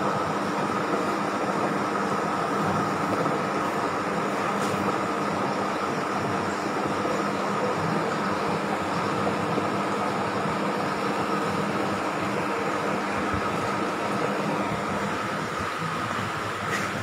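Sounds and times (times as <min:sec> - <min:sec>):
mechanical hum with rushing: 0:00.0 - 0:17.0.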